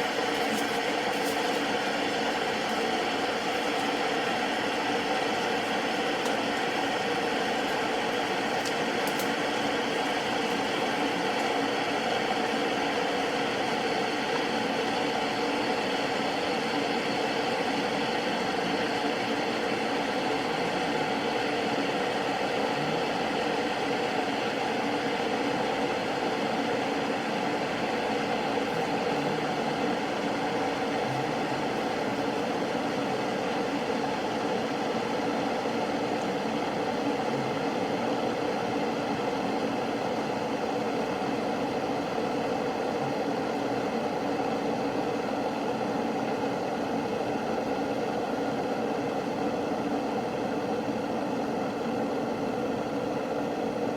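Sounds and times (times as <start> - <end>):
electric kettle heating water: 0.0 - 53.9.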